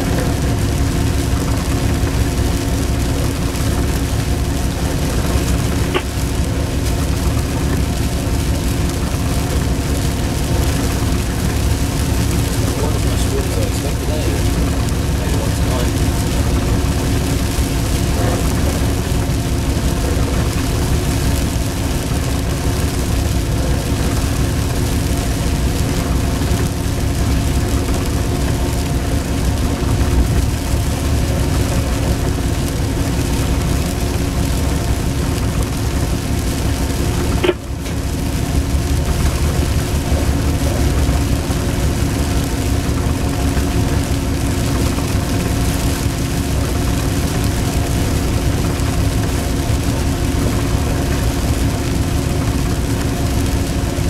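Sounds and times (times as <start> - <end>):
locomotive cab rumble and hum: 0.0 - 54.0.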